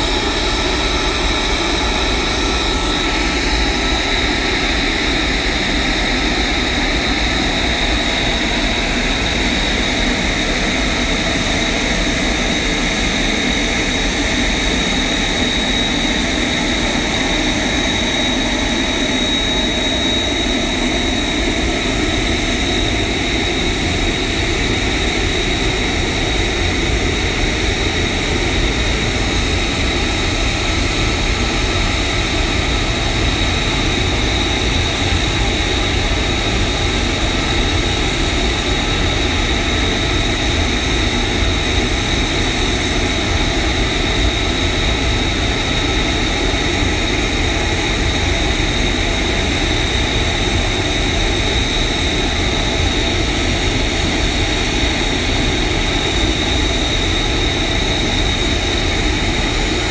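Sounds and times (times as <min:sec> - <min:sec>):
jet engine with high whine: 0:00.0 - 0:59.9.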